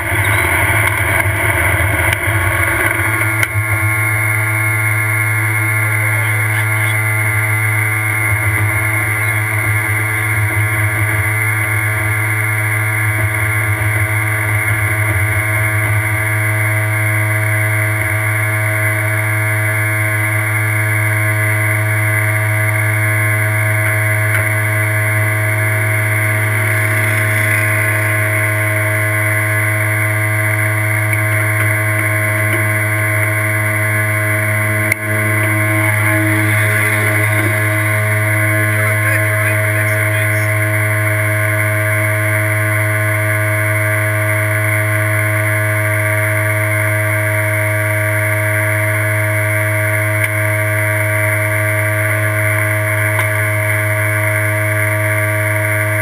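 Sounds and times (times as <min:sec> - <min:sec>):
buggy engine at high revs: 0:00.0 - 0:56.0.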